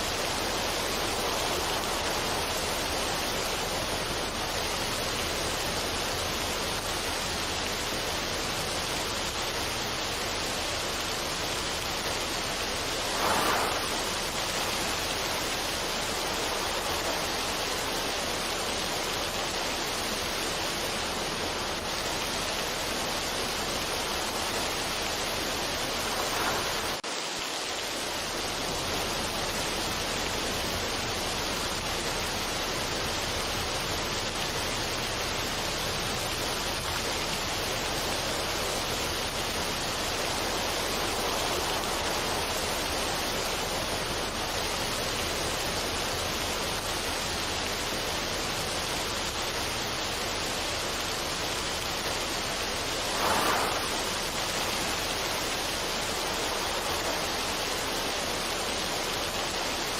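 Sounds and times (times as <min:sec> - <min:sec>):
steady rushing noise: 0:00.0 - 0:33.8, 0:34.4 - 0:47.7, 0:48.4 - 0:59.9.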